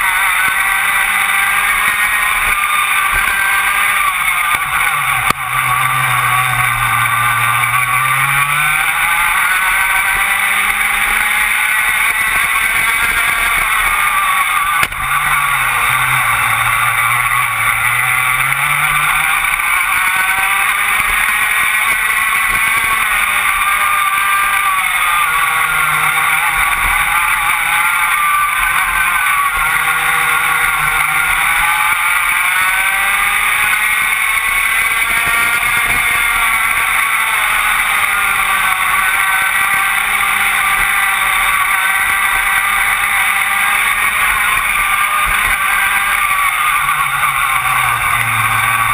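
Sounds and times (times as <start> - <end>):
kart engine at racing revs: 0.0 - 48.9.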